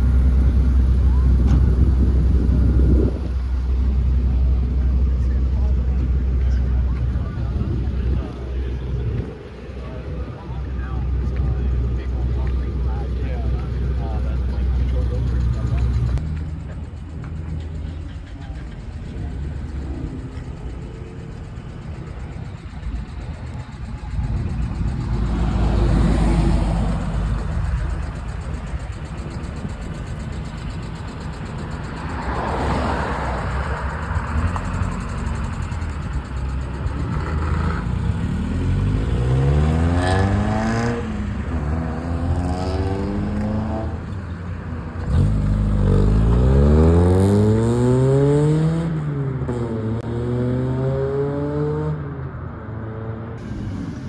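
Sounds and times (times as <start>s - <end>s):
low rumble of engines running: 0.0s - 47.9s
car engines accelerating hard: 0.0s - 54.0s.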